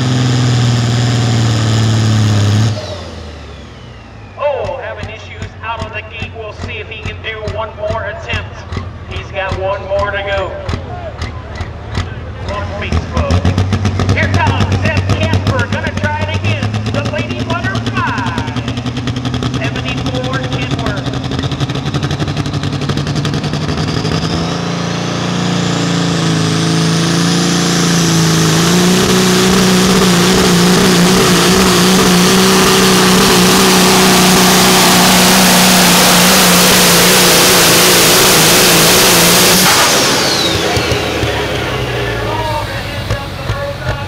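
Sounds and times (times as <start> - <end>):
truck engine under full load: 0.0 - 44.0.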